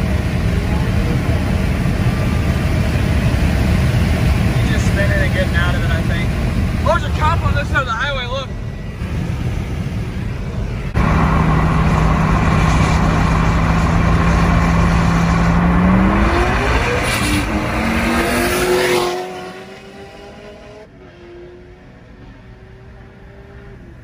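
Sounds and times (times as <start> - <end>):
car engine accelerating: 0.0 - 24.0
road noise: 0.0 - 24.0.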